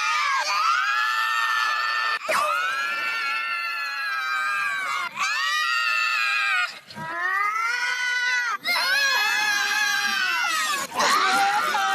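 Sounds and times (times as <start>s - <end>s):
cartoon characters screaming: 0.0s - 11.9s.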